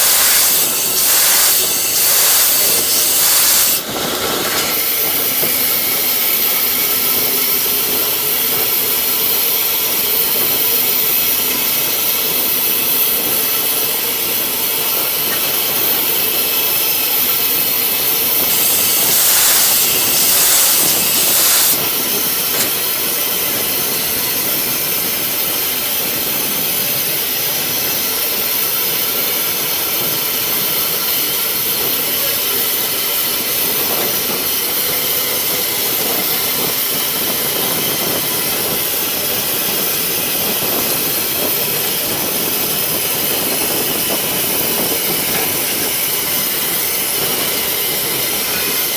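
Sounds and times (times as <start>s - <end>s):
rush of steam: 0.0s - 48.9s
steam locomotive hissing: 0.0s - 48.9s.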